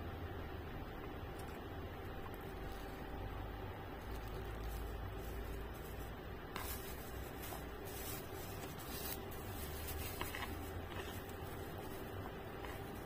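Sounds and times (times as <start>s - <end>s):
steady background hiss: 0.0s - 13.0s
chewing: 1.3s - 3.3s, 4.0s - 13.0s.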